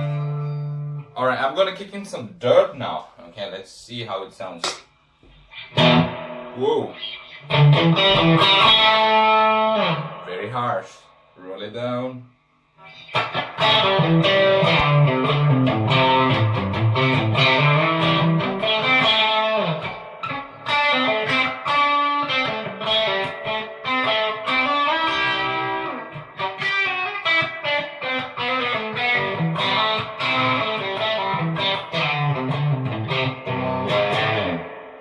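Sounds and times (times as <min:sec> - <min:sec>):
distorted electric guitar: 0:00.0 - 0:01.2, 0:04.7 - 0:11.0, 0:12.8 - 0:35.0.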